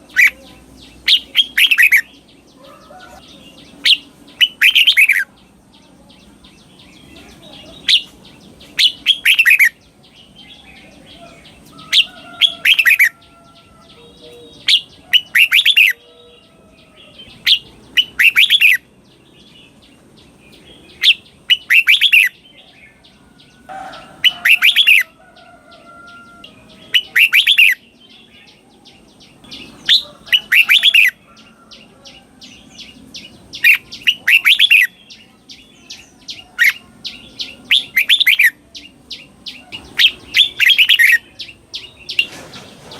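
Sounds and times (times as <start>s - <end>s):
soft bird chirps: 0.0s - 42.9s.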